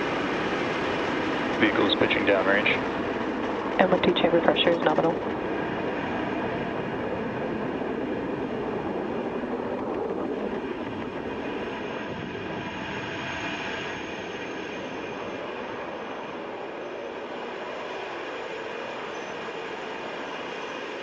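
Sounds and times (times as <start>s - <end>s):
rocket engine roar: 0.0s - 21.0s.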